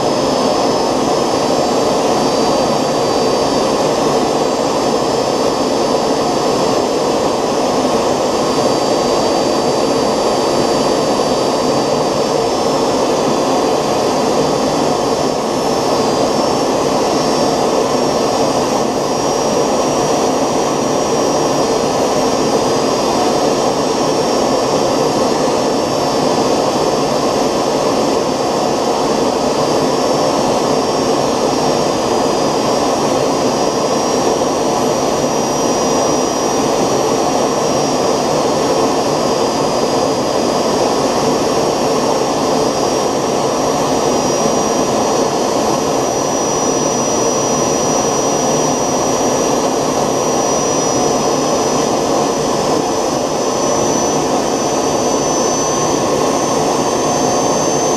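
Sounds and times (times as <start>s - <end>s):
model jet engine running: 0.0s - 57.9s.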